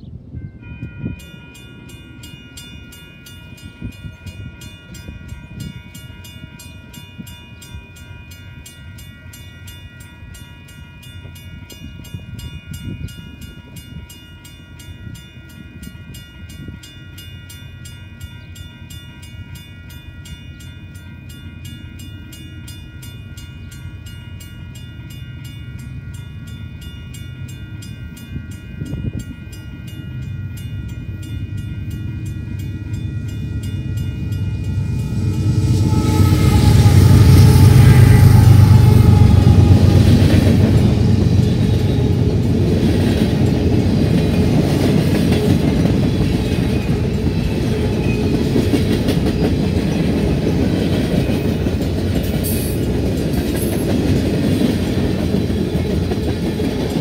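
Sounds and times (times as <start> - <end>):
crossing bells ringing: 0.0 - 57.0
freight train rumble: 0.0 - 57.0.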